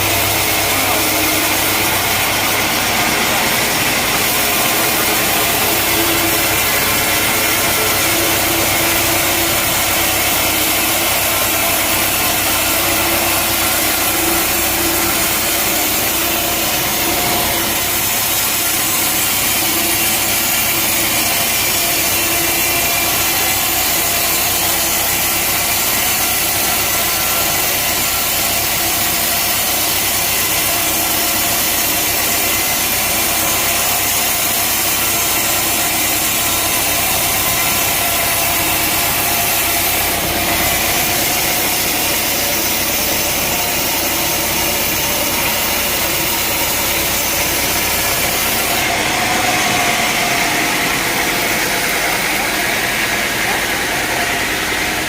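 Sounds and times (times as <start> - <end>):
engine running: 0.0 - 55.0
saw cutting through log: 0.0 - 55.0.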